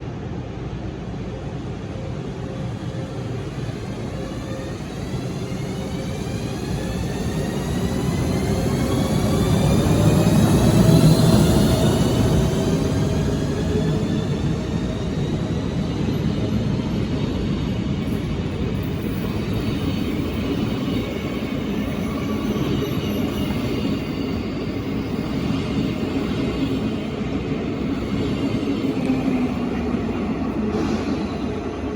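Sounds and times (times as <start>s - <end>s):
train rumble: 0.0s - 31.9s
electric locomotive whining: 0.1s - 31.9s.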